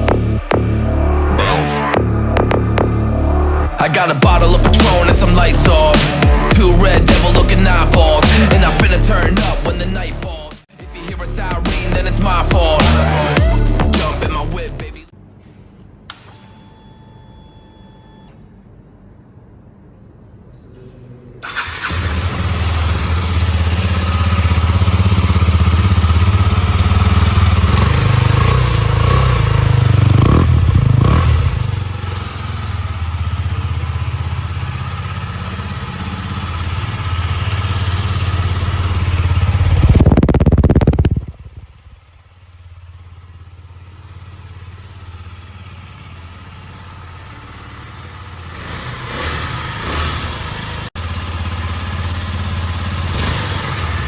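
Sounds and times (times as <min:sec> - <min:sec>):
motorcycle engine revving: 0:00.0 - 0:10.2, 0:11.1 - 0:15.1, 0:21.4 - 0:54.0.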